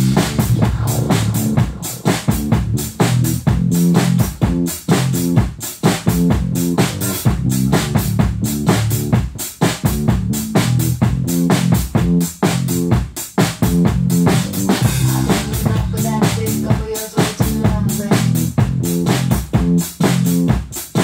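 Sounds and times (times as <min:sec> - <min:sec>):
drum kit playing rock beat: 0:00.0 - 0:21.0
recorded song track: 0:00.0 - 0:21.0.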